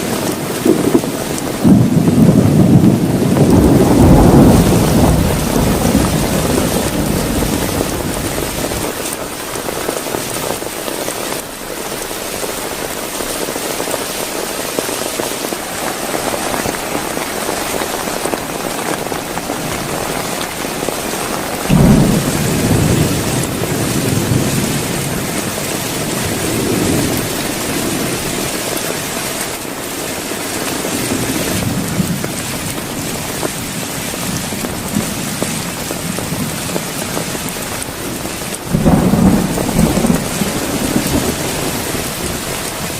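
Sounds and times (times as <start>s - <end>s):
heavy rain falling: 0.0s - 42.9s
thunder cracking and rumbling: 0.0s - 42.9s.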